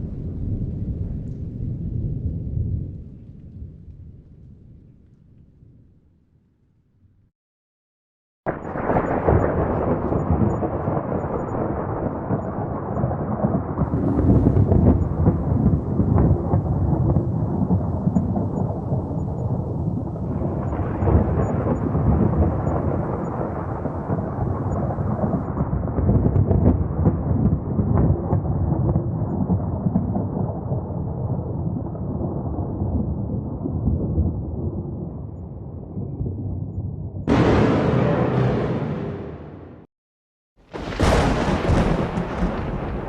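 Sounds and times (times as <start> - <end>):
thunder rumbling: 0.0 - 5.8, 8.5 - 39.9, 40.7 - 43.0.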